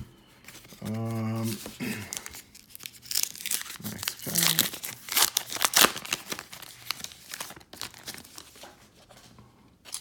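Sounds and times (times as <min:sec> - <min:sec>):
card pack wrapper tearing and crinkling: 0:00.6 - 0:08.6.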